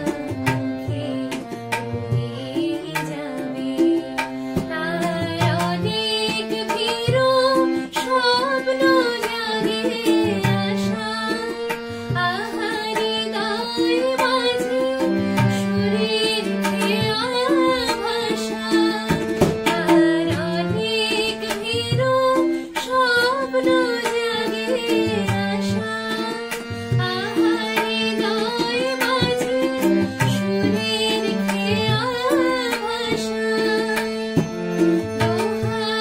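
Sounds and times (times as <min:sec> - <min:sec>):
hand drum percussion: 0:00.0 - 0:36.0
keyboard playing: 0:00.0 - 0:36.0
woman singing: 0:00.0 - 0:36.0.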